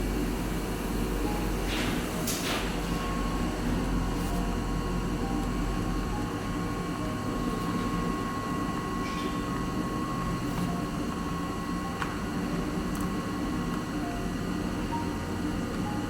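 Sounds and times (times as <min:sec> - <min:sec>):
fan-like hum: 0:00.0 - 0:16.0.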